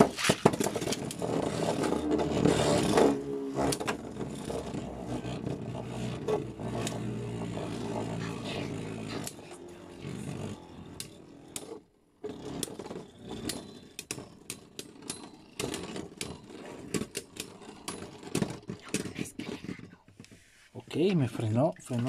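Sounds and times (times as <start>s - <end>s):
spinning tops whirring on plastic: 0.0s - 20.3s.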